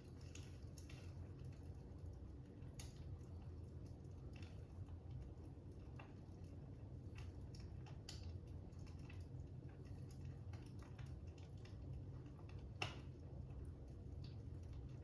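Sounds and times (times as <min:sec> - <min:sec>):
faint fire crackling: 0:00.0 - 0:15.0.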